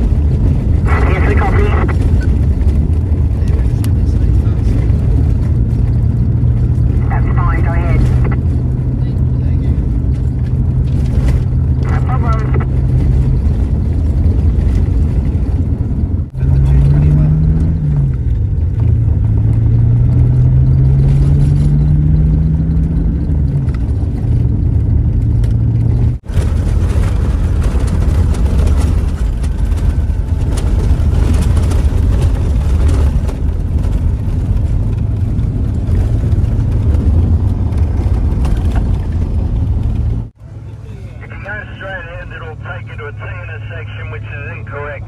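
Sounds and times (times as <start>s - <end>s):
car engine: 0.0s - 45.0s
road noise rumble: 0.0s - 45.0s.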